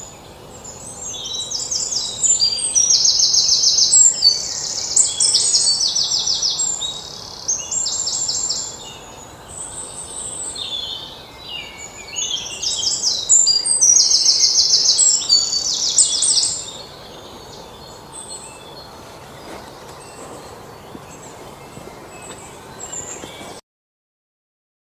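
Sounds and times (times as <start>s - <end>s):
bird trilling song: 0.0s - 23.6s.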